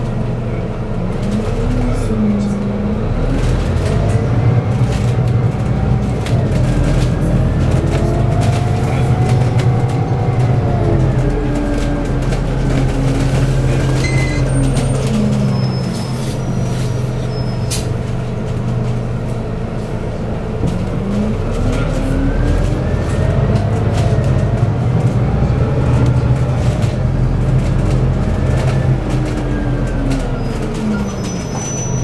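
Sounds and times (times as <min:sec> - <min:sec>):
bus engine: 0:00.0 - 0:32.0.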